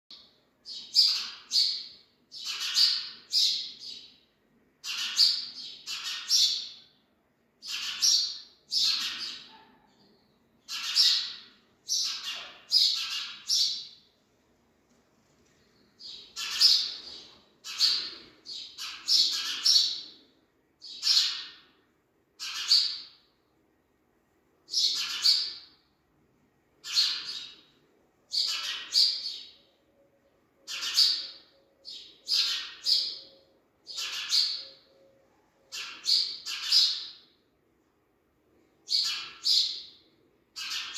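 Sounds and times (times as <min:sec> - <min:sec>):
sparrows chirping: 0:00.1 - 0:07.0, 0:07.6 - 0:14.1, 0:15.4 - 0:21.8, 0:22.4 - 0:23.4, 0:24.7 - 0:25.8, 0:26.8 - 0:37.4, 0:38.8 - 0:40.9.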